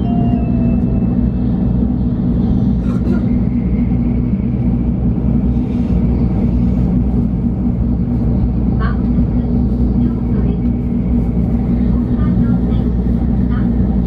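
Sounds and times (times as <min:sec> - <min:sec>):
train running gear rumble: 0:00.0 - 0:14.0.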